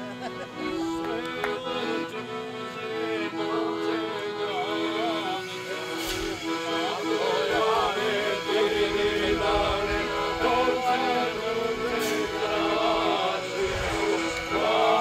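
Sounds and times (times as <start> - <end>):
steady low drone: 0.0 - 15.0
men singing folk song: 0.4 - 15.0.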